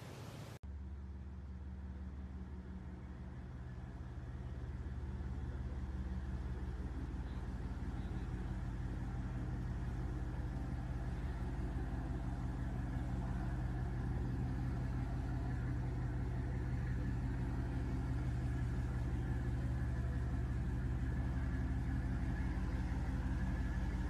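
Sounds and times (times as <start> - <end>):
boat engines low hum: 0.0 - 24.0.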